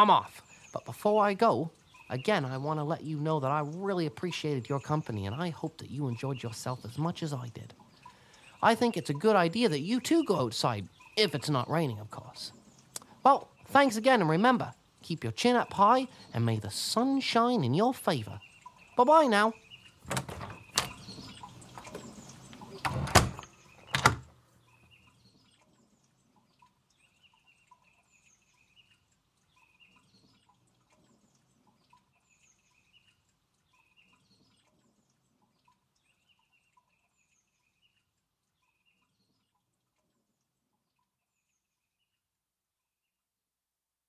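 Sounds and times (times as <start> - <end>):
faint birds chirping: 0.0 - 42.4.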